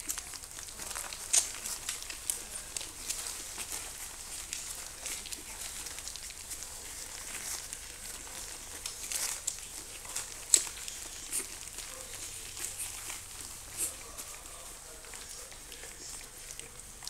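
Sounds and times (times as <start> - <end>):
puppies scrabbling: 0.0 - 17.0.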